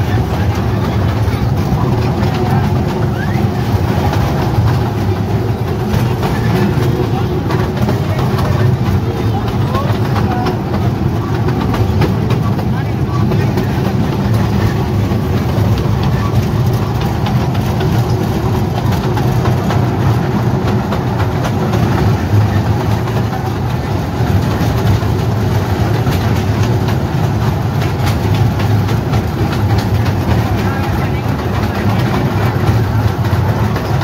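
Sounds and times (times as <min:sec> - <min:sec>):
train engine humming: 0:00.0 - 0:34.0.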